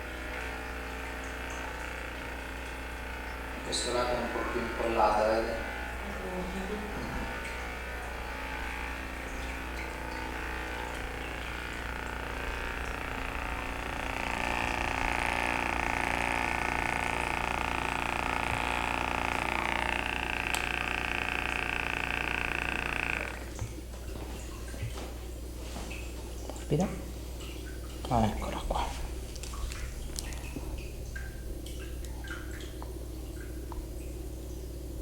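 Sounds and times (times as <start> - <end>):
massager motor hum: 0.0 - 35.0.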